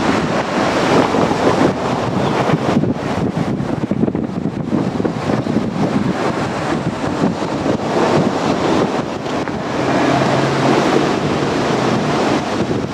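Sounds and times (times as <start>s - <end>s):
train wheel rumble and clatter: 0.0s - 12.9s
wind buffeting microphone: 0.0s - 12.9s.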